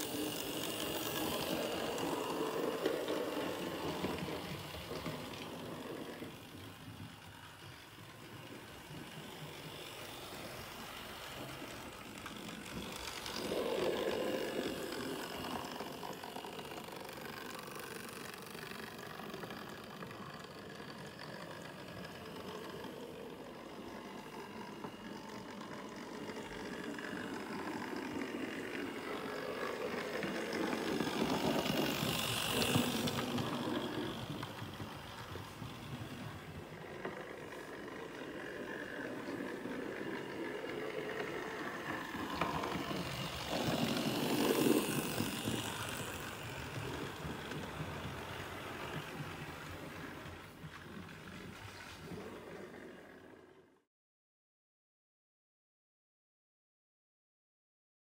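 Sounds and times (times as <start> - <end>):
wheels rattling along track: 0.0 - 53.7
model train motor whirring: 0.0 - 53.8.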